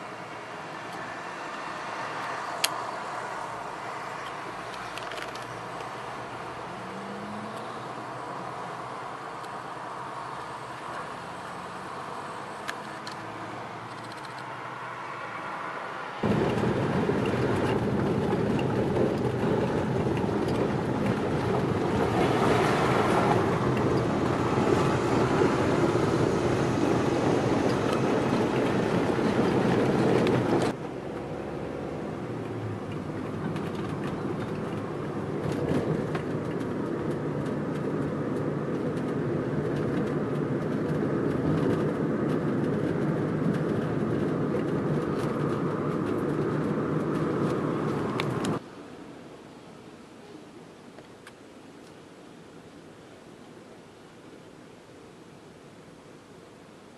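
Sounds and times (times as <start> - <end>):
road and engine noise inside car: 0.0 - 56.9.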